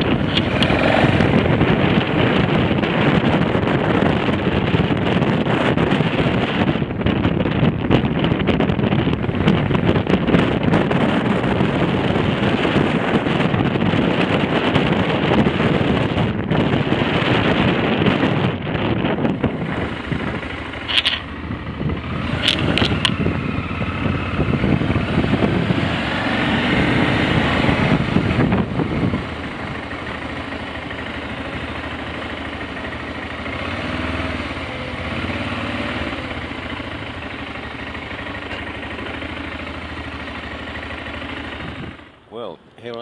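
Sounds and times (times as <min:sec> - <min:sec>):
wind noise: 0:00.0 - 0:39.0, 0:39.6 - 0:43.0
motorcycle engine: 0:00.0 - 0:42.7.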